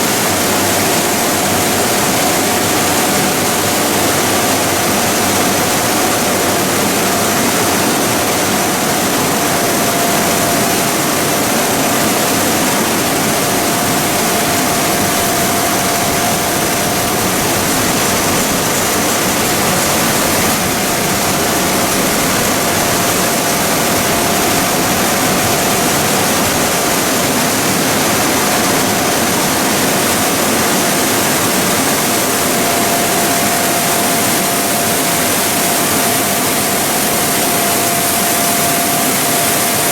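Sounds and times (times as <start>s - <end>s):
constant machine whine: 0.0s - 39.9s
machinery mechanical rush: 0.0s - 39.9s.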